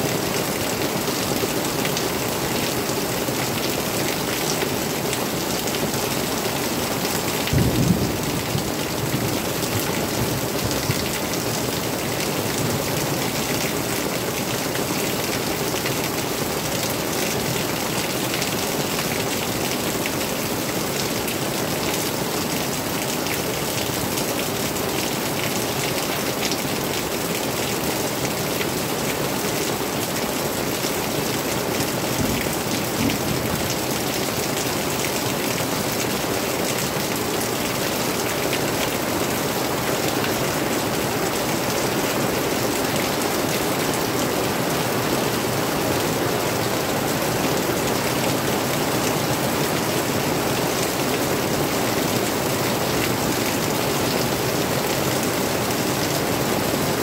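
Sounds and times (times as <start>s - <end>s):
rain on foliage and roof: 0.0s - 57.0s.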